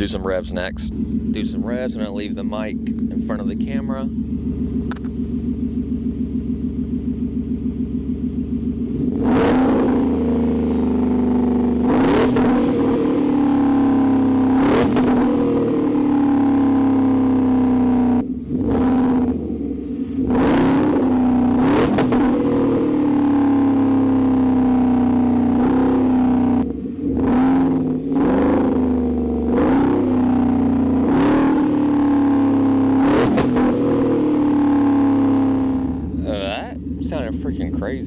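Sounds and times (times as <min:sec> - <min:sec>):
engine backfiring: 0:00.0 - 0:38.0
truck engine idling and revving: 0:00.0 - 0:38.0.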